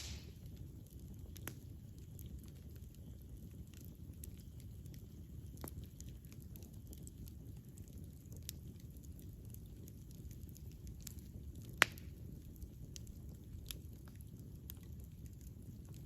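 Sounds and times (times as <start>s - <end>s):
fire crackling and popping: 0.0s - 16.0s
wood fire rumbling: 0.0s - 16.0s.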